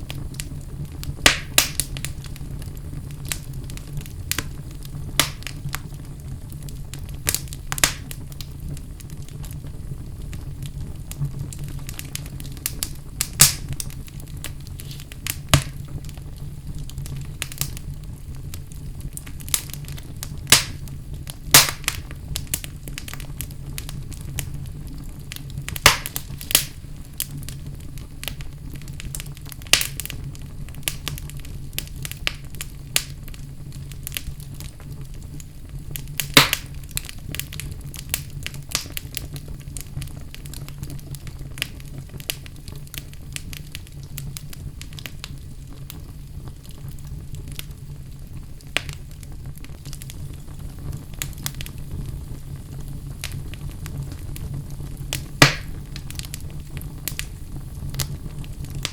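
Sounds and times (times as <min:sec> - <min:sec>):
wood fire burning: 0:00.0 - 0:58.9.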